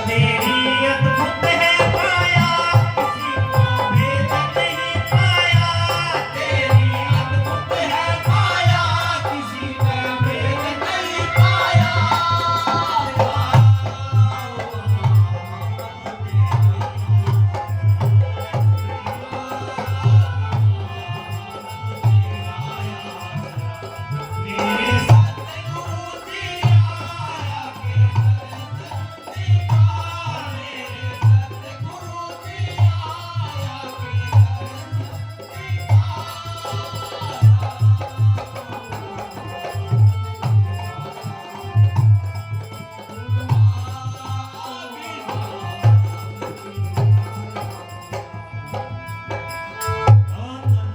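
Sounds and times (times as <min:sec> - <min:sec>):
rattle-like percussion: 0:00.0 - 0:50.8
person singing devotional song: 0:00.0 - 0:50.9.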